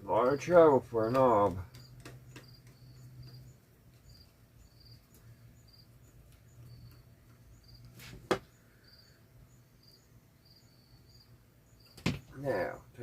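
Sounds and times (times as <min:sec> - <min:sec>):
crickets chirping: 0:00.1 - 0:12.8.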